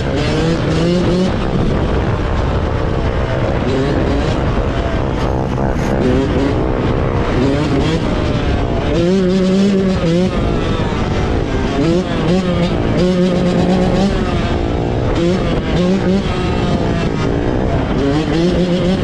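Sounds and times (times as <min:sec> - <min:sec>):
off-road vehicle engines revving: 0:00.0 - 0:19.0.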